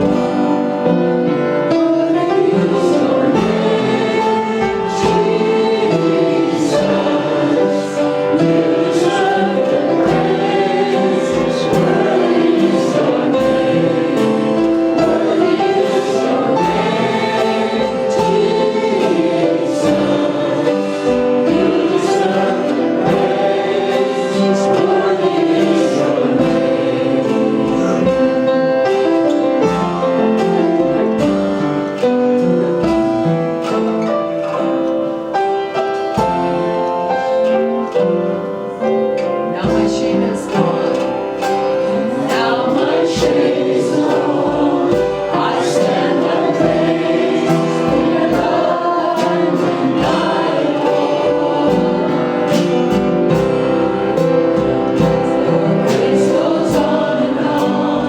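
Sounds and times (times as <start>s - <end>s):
choir singing gospel music: 0.0s - 58.0s
instrumental accompaniment: 0.0s - 58.0s.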